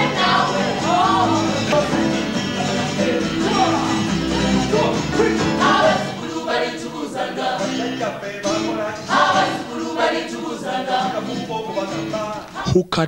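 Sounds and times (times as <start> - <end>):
choir singing: 0.0 - 12.8.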